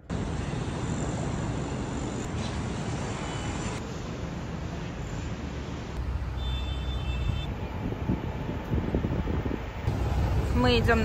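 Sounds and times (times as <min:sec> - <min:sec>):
traffic rush and hum: 0:00.0 - 0:11.0.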